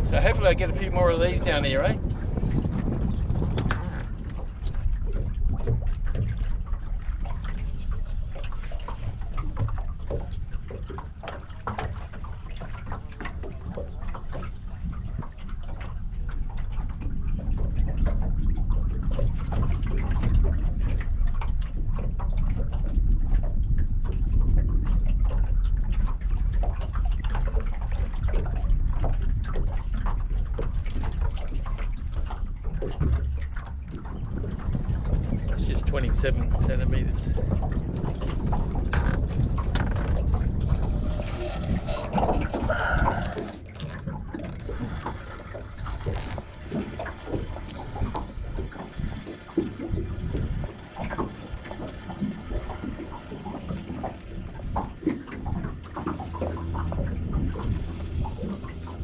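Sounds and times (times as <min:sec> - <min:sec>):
water lapping against boat hull: 0:00.0 - 0:59.0
wind rumble on microphone: 0:00.0 - 0:59.0.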